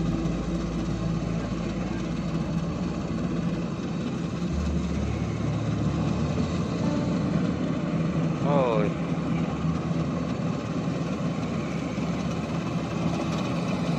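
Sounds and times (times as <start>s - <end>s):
combine harvester diesel engine: 0.0s - 13.9s.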